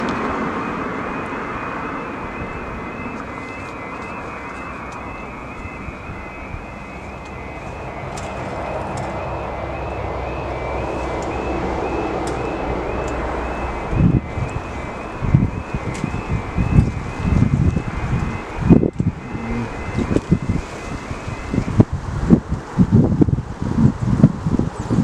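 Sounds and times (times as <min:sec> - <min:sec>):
level crossing alarm warbling: 0:00.0 - 0:21.9
loud low buffets: 0:00.0 - 0:23.5
broad rushing noise: 0:00.0 - 0:25.0.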